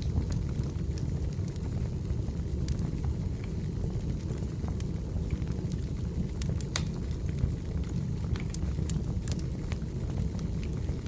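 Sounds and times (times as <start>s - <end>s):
logs crackling and popping: 0.0s - 11.0s
low rumble of flames: 0.0s - 11.0s.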